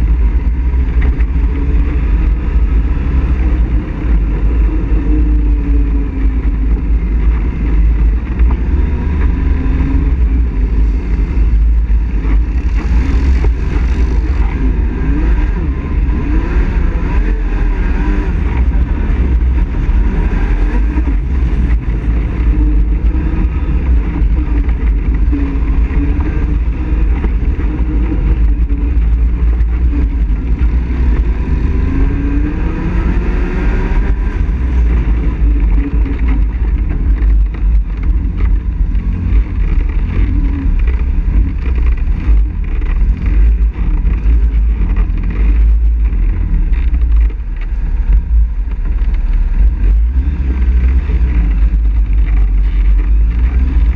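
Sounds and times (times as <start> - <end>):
atv engine running: 0.0 - 53.9.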